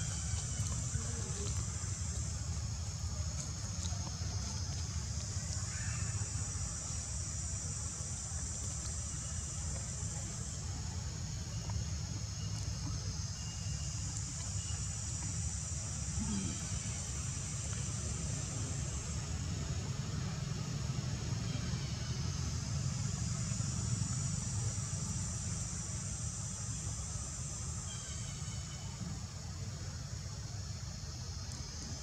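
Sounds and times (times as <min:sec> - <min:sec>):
low steady rumble: 0:00.0 - 0:32.0
high-pitched insect drone: 0:03.9 - 0:30.0.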